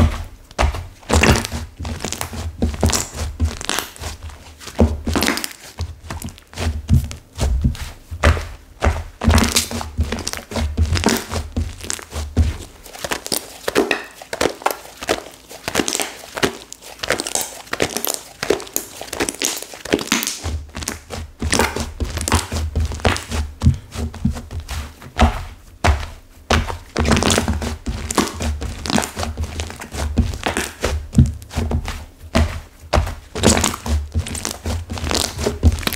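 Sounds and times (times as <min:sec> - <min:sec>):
slime crackling and crunching: 0:00.0 - 0:07.8, 0:09.2 - 0:23.9, 0:26.0 - 0:35.9.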